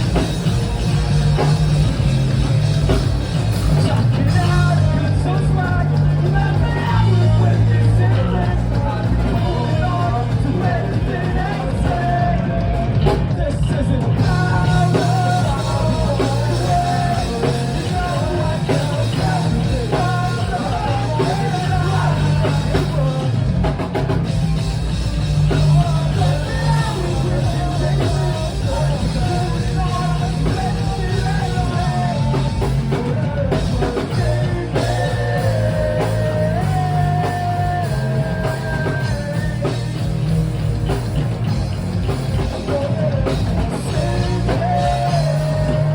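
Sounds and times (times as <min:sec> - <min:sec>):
rock band playing: 0:00.0 - 0:45.9
person singing: 0:03.6 - 0:24.1, 0:25.4 - 0:41.0, 0:42.4 - 0:45.9.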